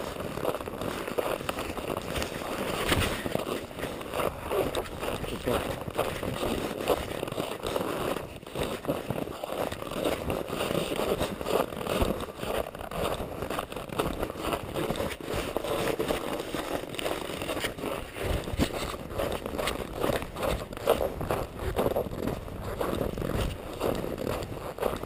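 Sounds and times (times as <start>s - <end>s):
clothing rustling: 0.0s - 21.4s
footsteps crunching snow: 0.0s - 25.0s.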